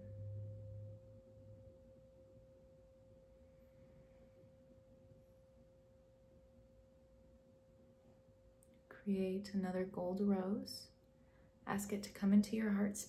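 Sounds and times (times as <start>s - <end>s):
faint steady pure tone: 0.0s - 13.0s.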